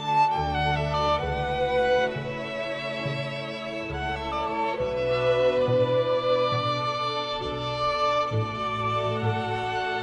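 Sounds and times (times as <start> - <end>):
cello notes: 0.0 - 10.0
violin line: 0.0 - 10.0.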